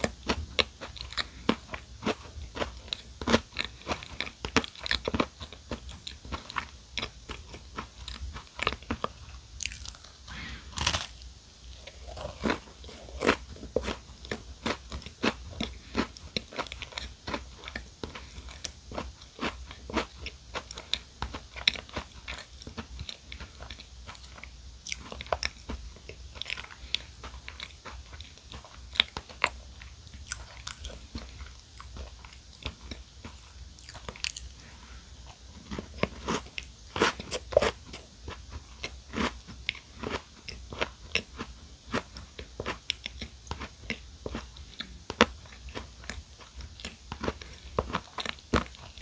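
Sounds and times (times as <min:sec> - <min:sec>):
crunchy chewing: 0:00.0 - 0:49.0.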